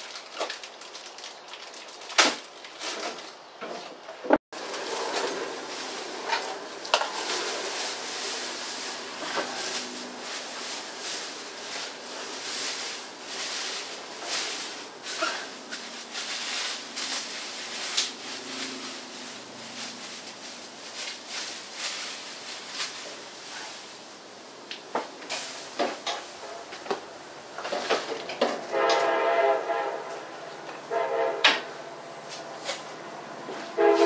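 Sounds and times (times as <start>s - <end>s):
plastic sheet rustling and crinkling: 0.0s - 3.8s, 4.6s - 29.2s.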